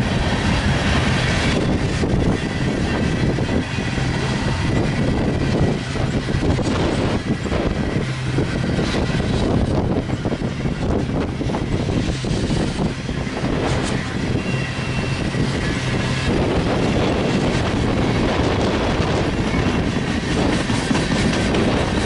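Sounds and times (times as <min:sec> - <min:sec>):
freight train rolling past: 0:00.0 - 0:22.0
wind buffeting microphone: 0:00.0 - 0:22.0.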